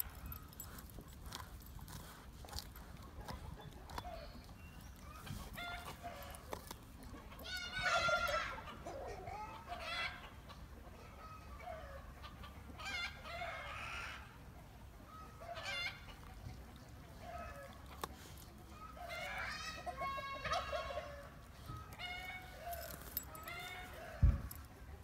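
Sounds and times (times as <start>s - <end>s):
chickens calling: 2.0s - 25.0s.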